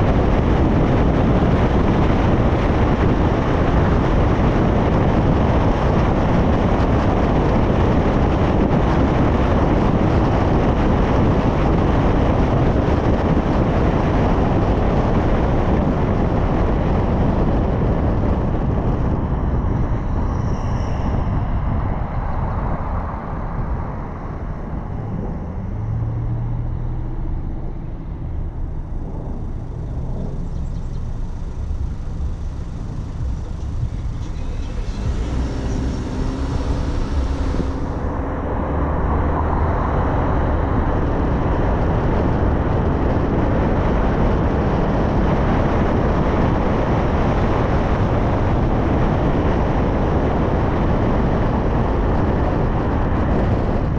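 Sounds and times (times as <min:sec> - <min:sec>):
low steady hum: 0:00.0 - 0:49.4
car road and wind noise: 0:00.0 - 0:53.9.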